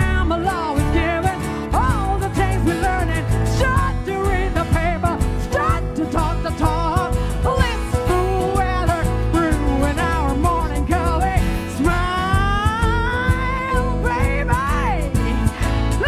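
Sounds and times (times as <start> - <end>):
bass: 0.0 - 16.0
guitar: 0.0 - 16.0
woman singing with vibrato: 0.0 - 16.0.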